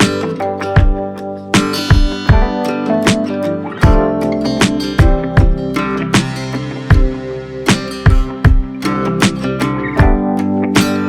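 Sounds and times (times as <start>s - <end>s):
relaxing instrumental music: 0.0s - 11.0s.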